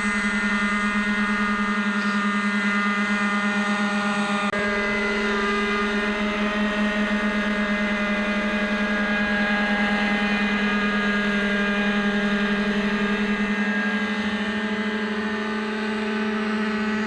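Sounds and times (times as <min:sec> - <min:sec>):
model helicopter engine running: 0:00.0 - 0:17.0
rapid rotor flutter: 0:00.0 - 0:17.0.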